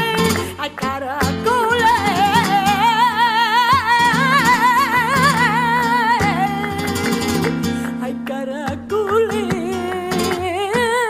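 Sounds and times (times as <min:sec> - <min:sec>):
plucked guitar: 0:00.0 - 0:11.0.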